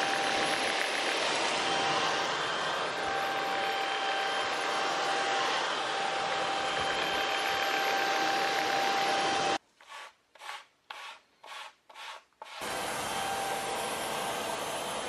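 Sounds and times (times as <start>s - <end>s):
handheld vacuum whine: 0.0s - 9.6s, 12.4s - 15.0s.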